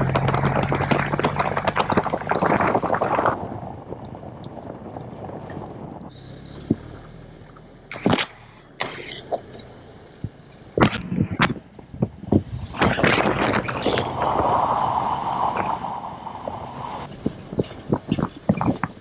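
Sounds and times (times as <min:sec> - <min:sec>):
dense rattling crackling noise: 0:00.0 - 0:19.0
truck engine hum: 0:00.0 - 0:19.0.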